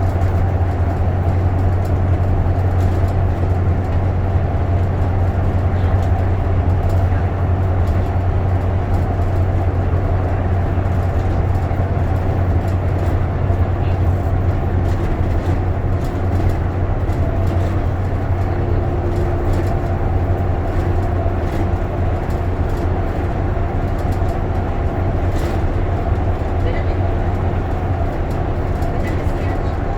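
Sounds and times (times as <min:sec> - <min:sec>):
bus engine and road drone: 0:00.0 - 0:29.9.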